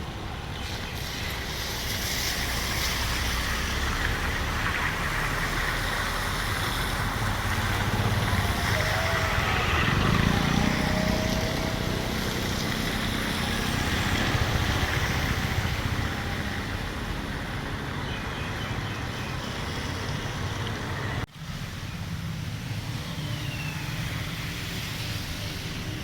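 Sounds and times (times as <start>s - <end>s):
road noise: 0.0s - 26.0s
vehicle engines running: 0.0s - 26.0s.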